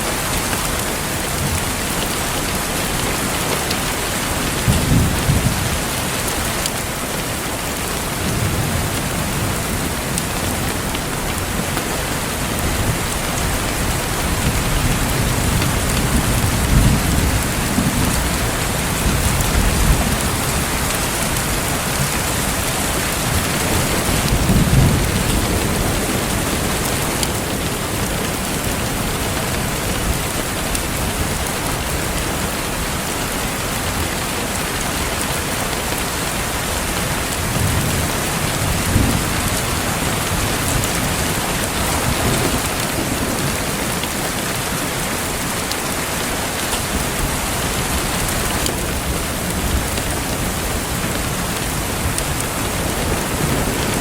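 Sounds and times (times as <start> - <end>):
thunder rumbling: 0.0 - 6.6, 7.8 - 34.0, 36.8 - 45.5, 46.5 - 54.0
steady rain falling: 0.0 - 54.0.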